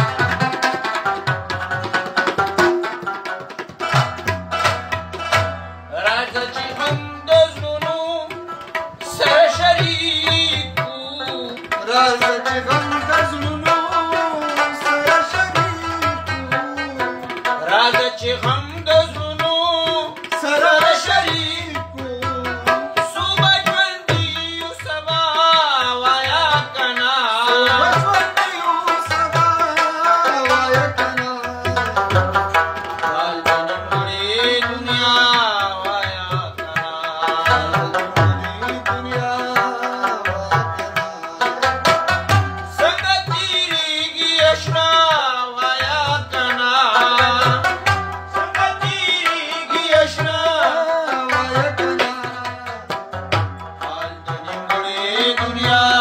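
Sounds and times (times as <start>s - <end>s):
rabab melody: 0.0s - 56.0s.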